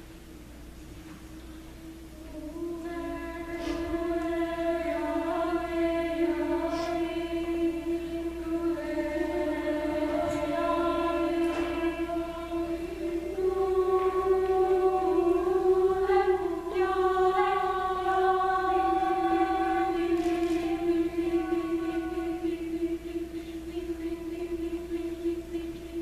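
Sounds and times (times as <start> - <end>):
women's choir singing: 2.1 - 26.0.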